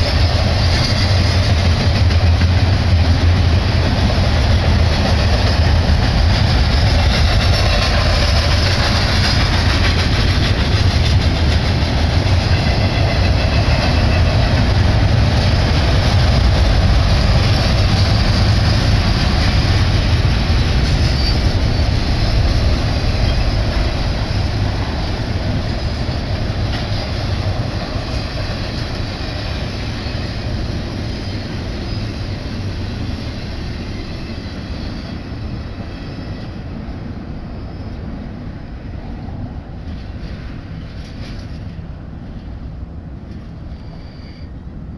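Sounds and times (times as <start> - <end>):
freight train wheels rumbling on rails: 0.0 - 44.9.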